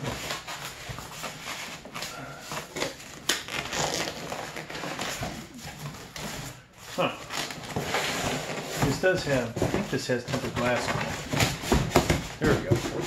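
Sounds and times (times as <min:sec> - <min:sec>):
foam and cardboard rubbing and rustling: 0:00.0 - 0:13.0.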